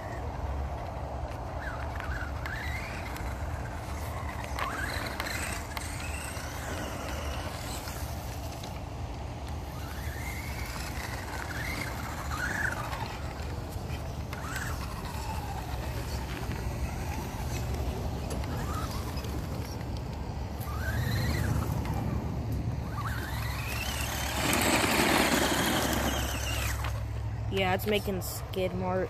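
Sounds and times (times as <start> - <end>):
toy car electric motor whining: 1.3 - 8.8, 9.4 - 27.1.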